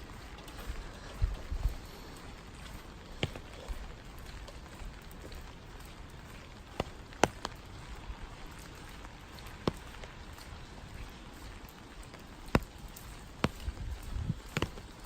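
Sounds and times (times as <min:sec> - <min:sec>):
single raindrops tapping close by: 0:00.0 - 0:15.0
steady rain falling: 0:00.0 - 0:15.0.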